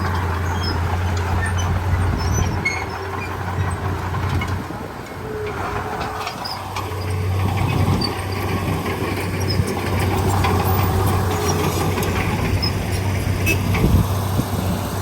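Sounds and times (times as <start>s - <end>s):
metallic clatter of tracks: 0.0s - 14.3s
bulldozer diesel engine running: 0.0s - 15.0s.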